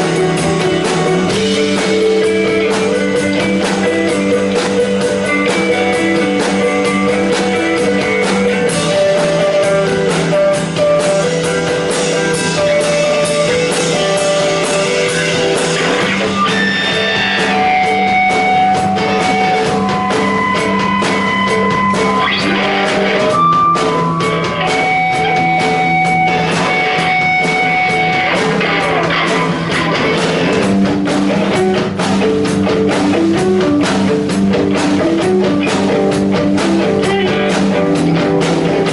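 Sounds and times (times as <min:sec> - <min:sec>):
drum kit: 0:00.0 - 0:38.9
guitars: 0:00.0 - 0:38.9
live rock band: 0:00.0 - 0:38.9.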